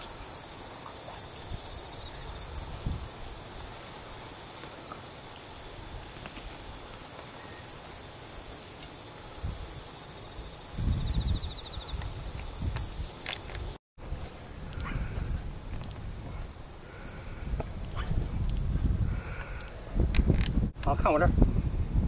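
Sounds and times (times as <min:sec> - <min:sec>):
insects chirring: 0:00.0 - 0:21.2.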